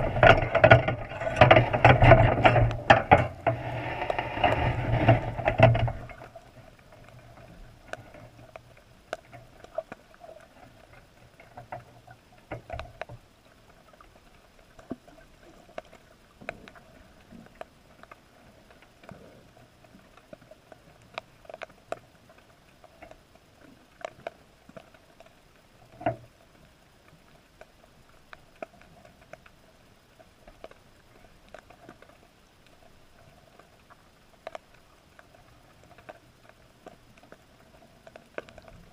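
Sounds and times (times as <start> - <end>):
faint underwater clicks and ticks: 0.0 - 38.9
low steady hum: 0.0 - 38.9.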